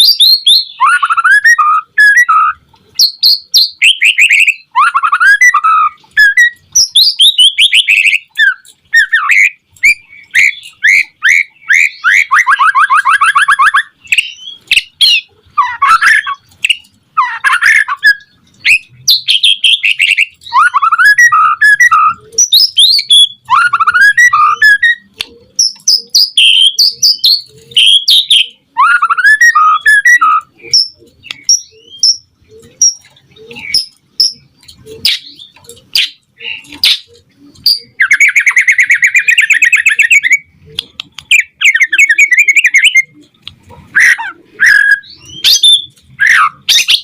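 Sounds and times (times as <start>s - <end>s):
fast bird trill: 0.0s - 40.5s, 41.3s - 43.2s, 43.9s - 47.0s
songbird singing whistled phrases: 0.0s - 40.5s, 41.3s - 43.3s, 43.9s - 47.0s.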